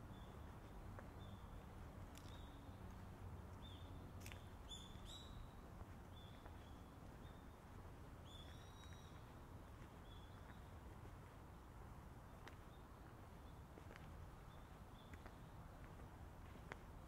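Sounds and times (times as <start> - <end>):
small birds chirping: 0.0 - 11.6, 12.3 - 16.9.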